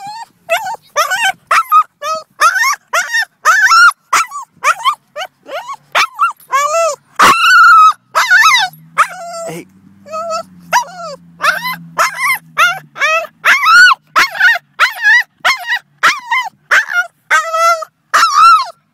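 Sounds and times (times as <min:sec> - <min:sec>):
dog whining and yelping: 0:00.0 - 0:18.9.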